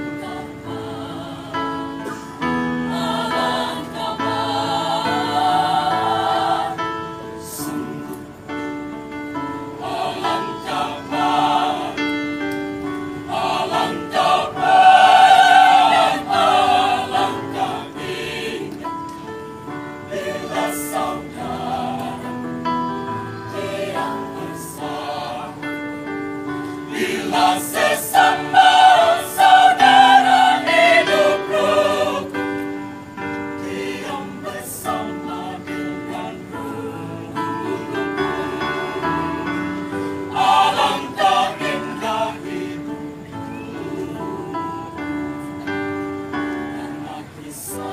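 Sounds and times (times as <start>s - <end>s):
mixed choir singing: 0.0s - 47.9s.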